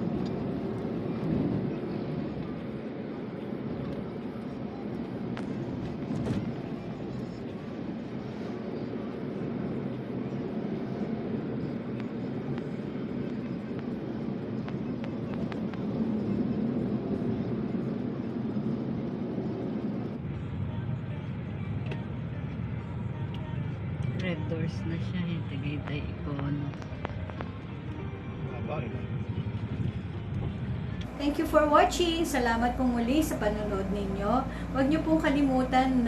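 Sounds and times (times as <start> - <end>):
low rumble and hiss: 0.0 - 36.0.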